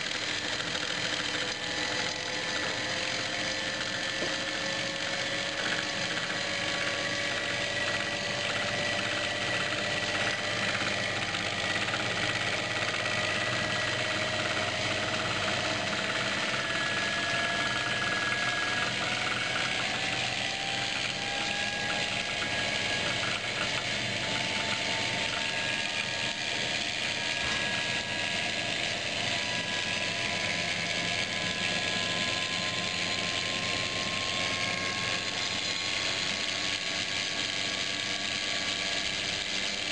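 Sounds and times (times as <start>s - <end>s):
generator whirring with whine: 0.0s - 39.9s.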